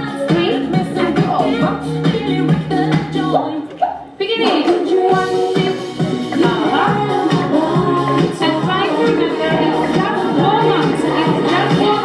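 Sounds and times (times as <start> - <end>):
line-dance song with singing: 0.0 - 12.0.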